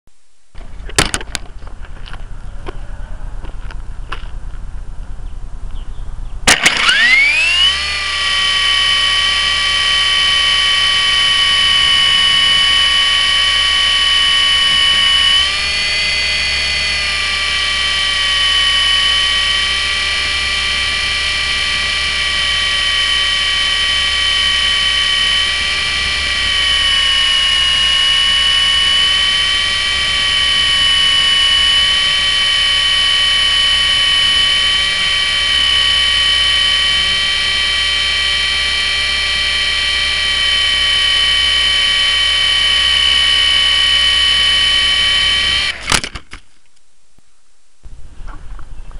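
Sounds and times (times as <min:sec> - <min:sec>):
model helicopter motor whine: 0:06.4 - 0:46.4.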